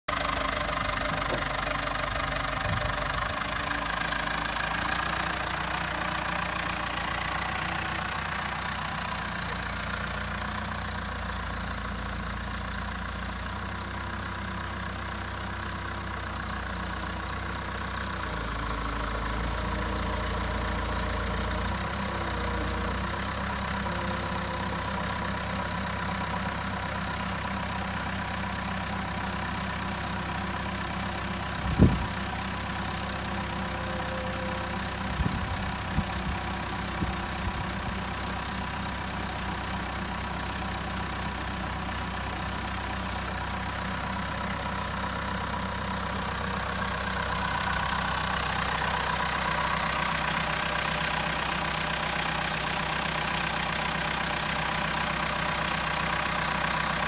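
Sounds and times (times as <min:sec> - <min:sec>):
forklift engine rumbling: 0:00.1 - 0:57.0.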